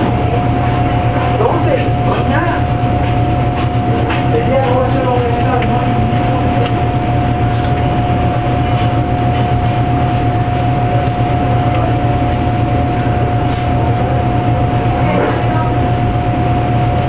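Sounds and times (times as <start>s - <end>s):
machine humming with whine: 0.0s - 17.0s.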